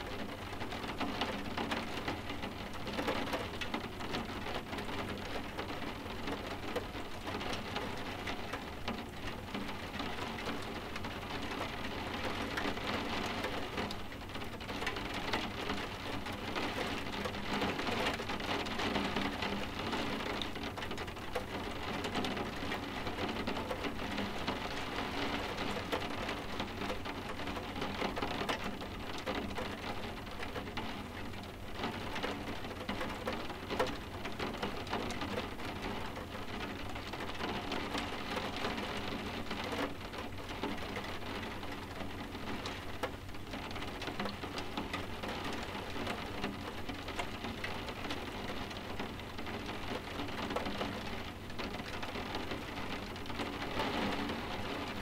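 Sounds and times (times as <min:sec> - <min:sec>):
rain tapping on window glass: 0:00.0 - 0:55.0.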